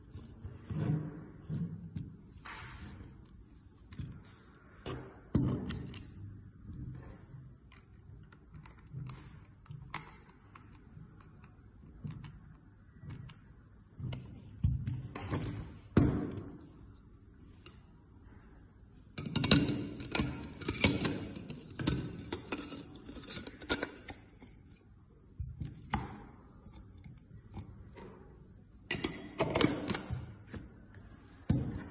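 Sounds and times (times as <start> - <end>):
plastic parts clicking and knocking: 0.0 - 18.4, 19.0 - 31.9.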